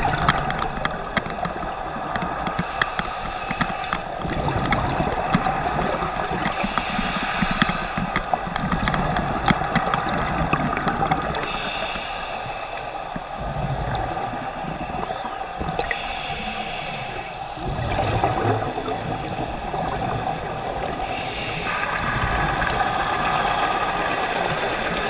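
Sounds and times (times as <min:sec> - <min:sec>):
hissing regulator bubbles: 0:00.0 - 0:25.0
steady underwater rumble: 0:00.0 - 0:25.0.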